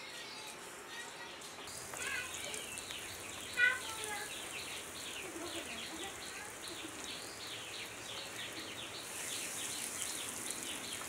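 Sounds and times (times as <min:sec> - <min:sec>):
food sizzling in hot oil: 0:01.6 - 0:11.0.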